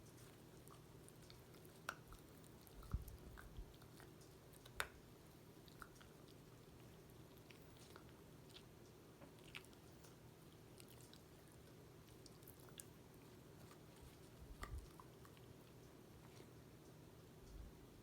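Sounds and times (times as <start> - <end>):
dog chewing: 0.0 - 17.0.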